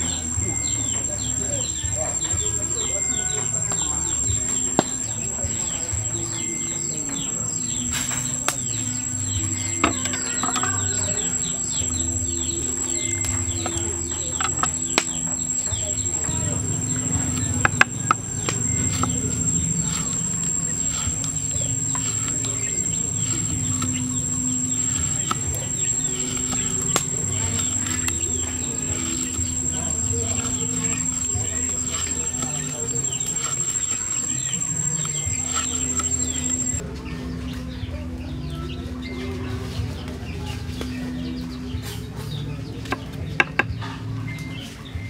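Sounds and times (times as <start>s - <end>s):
insects droning: 0.0s - 36.8s
birds chirping: 0.0s - 45.0s.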